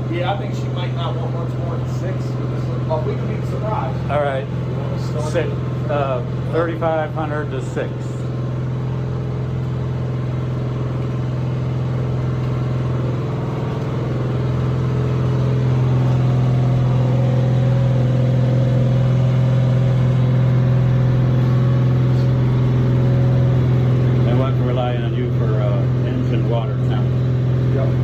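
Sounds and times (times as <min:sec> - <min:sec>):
vee eight engine running steadily: 0:00.0 - 0:28.0.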